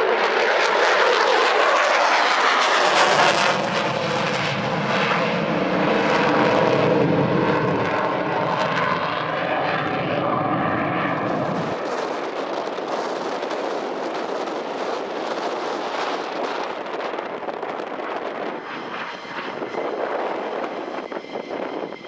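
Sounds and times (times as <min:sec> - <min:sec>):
jet flying overhead: 0:00.0 - 0:22.0.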